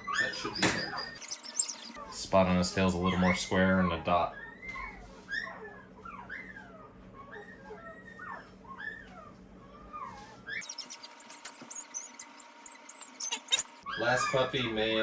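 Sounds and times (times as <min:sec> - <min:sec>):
puppies squealing and whining: 0:00.0 - 0:15.0.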